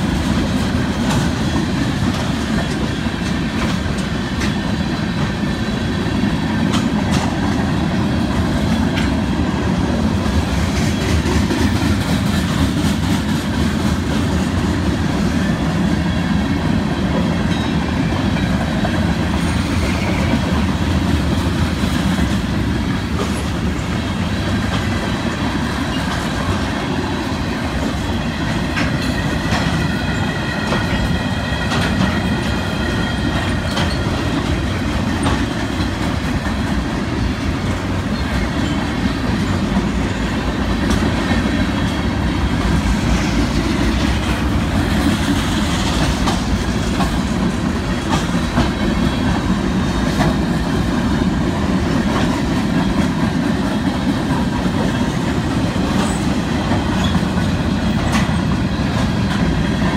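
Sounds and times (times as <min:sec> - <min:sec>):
train wheels rumbling on rail: 0:00.0 - 0:59.9
wheels clicking over rail joints: 0:00.1 - 0:59.9.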